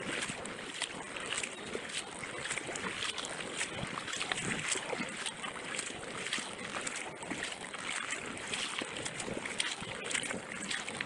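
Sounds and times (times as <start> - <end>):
paddle splashing in water: 0.0 - 11.0
water rushing along hull: 0.0 - 11.0.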